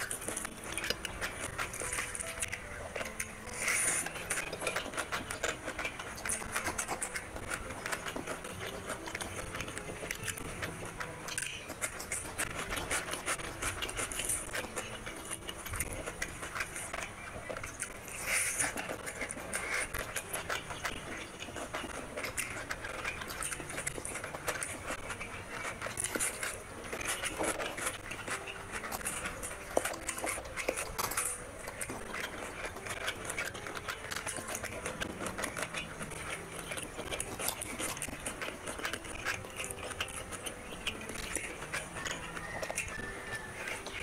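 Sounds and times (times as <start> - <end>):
fingers squishing rice: 0.0 - 44.0
wet chewing and lip-smacking: 0.0 - 44.0.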